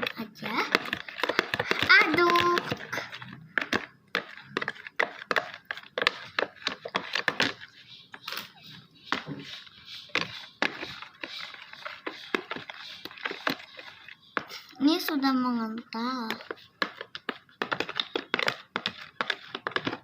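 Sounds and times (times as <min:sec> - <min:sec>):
slime squelching while stirred: 0:00.0 - 0:20.0.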